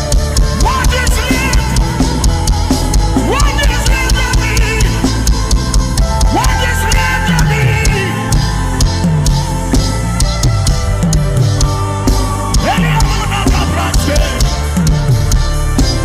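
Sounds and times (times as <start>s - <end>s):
bending melodic lead lines: 0.0s - 16.0s
drum kit beat: 0.0s - 16.0s
sliding bass line: 0.0s - 16.0s.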